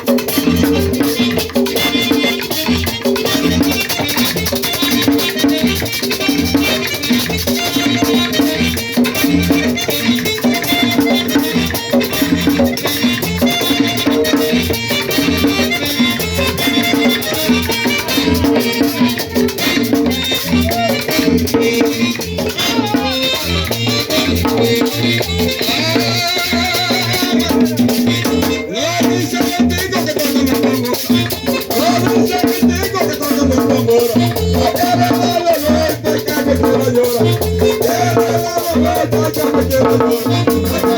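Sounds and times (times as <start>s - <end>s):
drum: 0.0s - 40.9s
instrumental melody: 0.0s - 40.9s.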